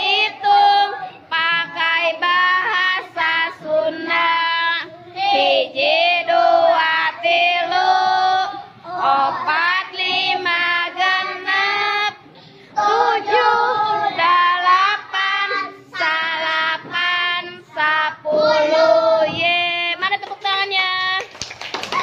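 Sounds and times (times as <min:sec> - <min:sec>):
children singing together: 0:00.0 - 0:20.0.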